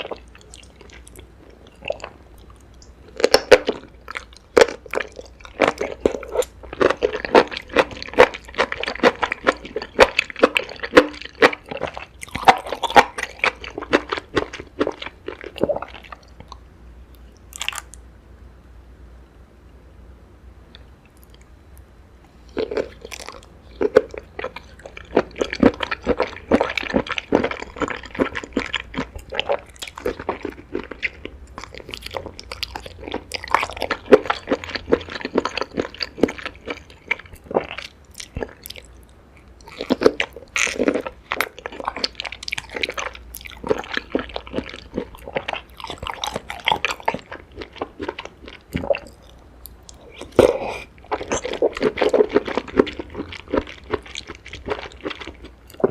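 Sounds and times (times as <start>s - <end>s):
person chewing crunchy food: 0.0s - 16.6s, 17.2s - 18.0s, 22.4s - 55.9s.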